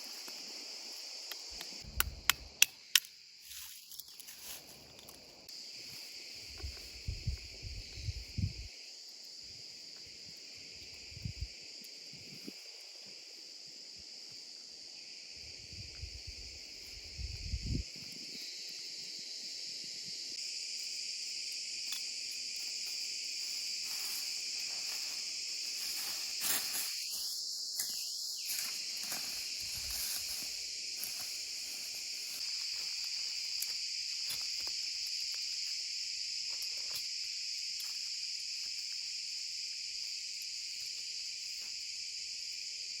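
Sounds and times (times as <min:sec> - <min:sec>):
insects chirping: 0:00.0 - 0:43.0.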